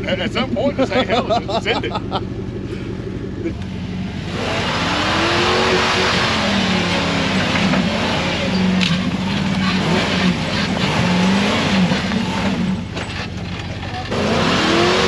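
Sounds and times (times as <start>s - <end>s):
vehicle engine revving hard: 1.1s - 13.0s, 14.1s - 15.0s.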